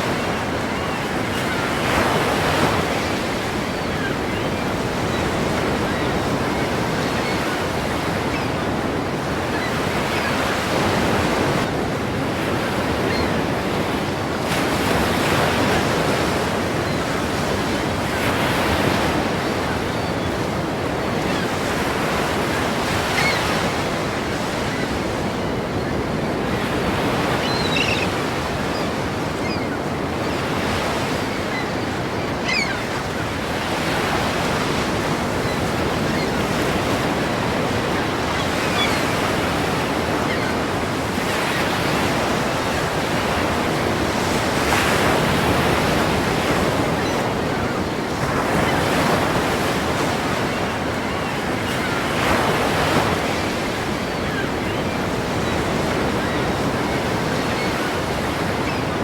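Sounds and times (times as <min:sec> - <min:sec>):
ocean waves crashing: 0:00.0 - 0:59.0.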